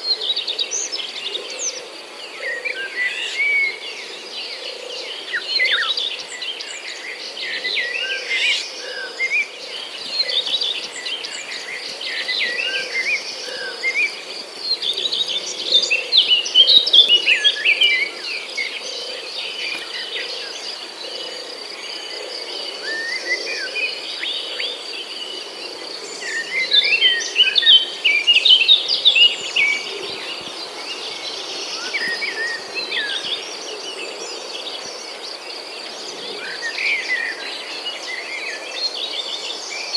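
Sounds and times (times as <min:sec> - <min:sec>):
high insect drone: 0:00.0 - 0:39.9
songbirds chirping and twittering: 0:00.0 - 0:39.9.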